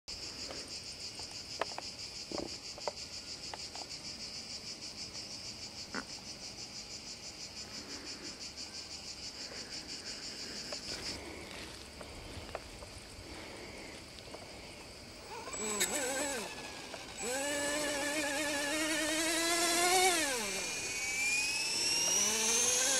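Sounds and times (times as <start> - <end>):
insects buzzing: 0.1 - 22.9.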